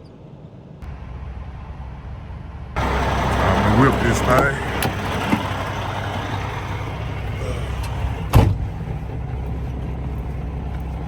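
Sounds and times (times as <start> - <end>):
diesel truck engine running: 0.9 - 11.0.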